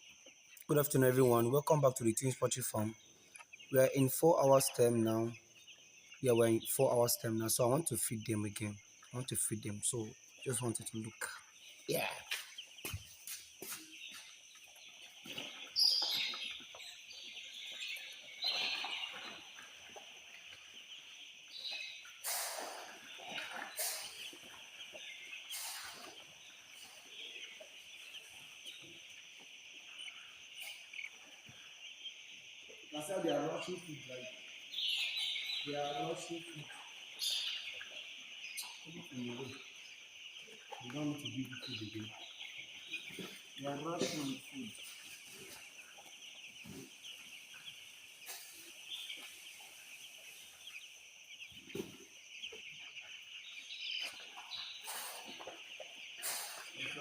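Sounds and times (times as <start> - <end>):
chickens clucking softly: 0.0 - 57.0.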